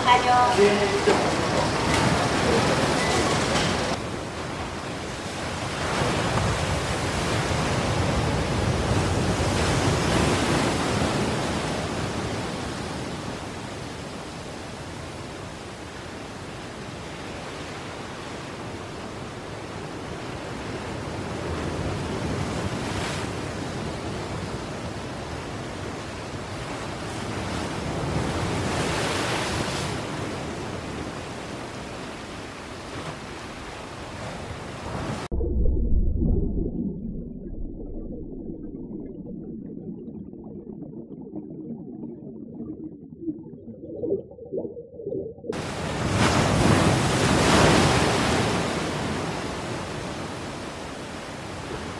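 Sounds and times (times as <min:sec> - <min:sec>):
ocean waves washing in: 0:00.0 - 0:51.9.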